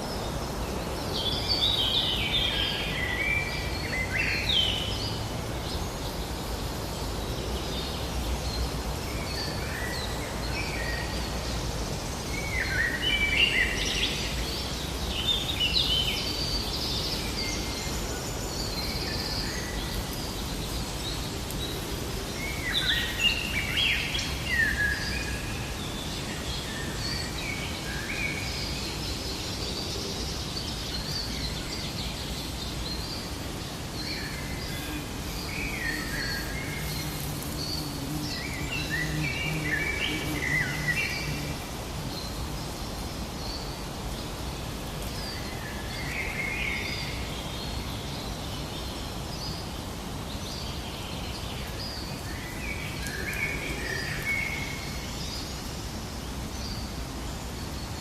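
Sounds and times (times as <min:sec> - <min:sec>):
outdoor ambient noise: 0:00.0 - 0:58.0.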